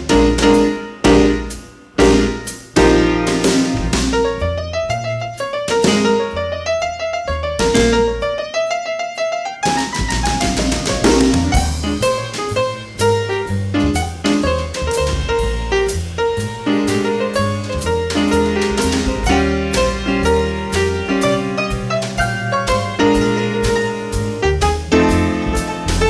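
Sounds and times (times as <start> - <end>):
bass line: 0.0 - 8.5, 10.0 - 26.0
jazz piano chords: 0.0 - 26.0.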